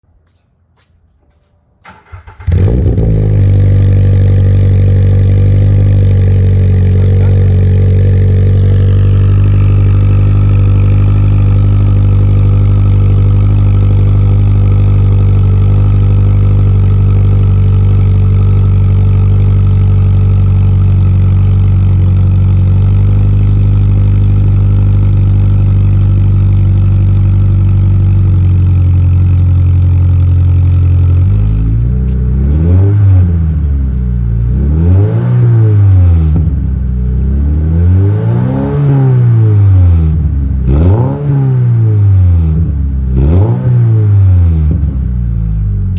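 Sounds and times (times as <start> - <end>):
car engine starting and idling: 1.8 - 45.9.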